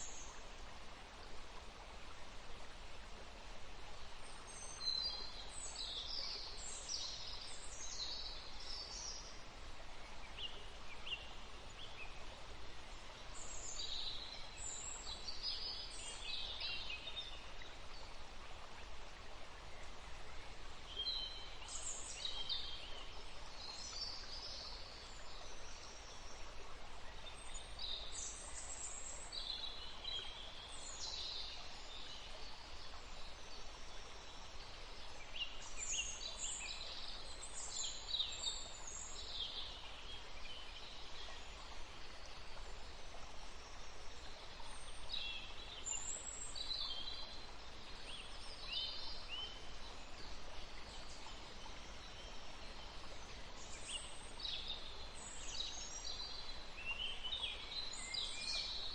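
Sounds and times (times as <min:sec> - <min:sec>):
steady outdoor hiss: 0:00.0 - 0:58.9.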